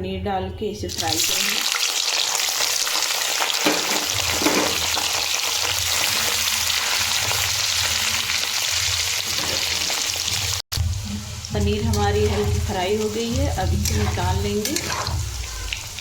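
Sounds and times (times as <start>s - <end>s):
cheese sizzling in hot oil: 1.0s - 16.0s.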